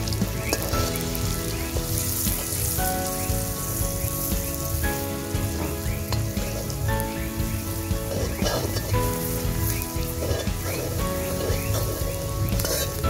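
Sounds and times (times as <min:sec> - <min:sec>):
background music: 0:00.0 - 0:13.0
onions sizzling in oil: 0:00.0 - 0:13.0.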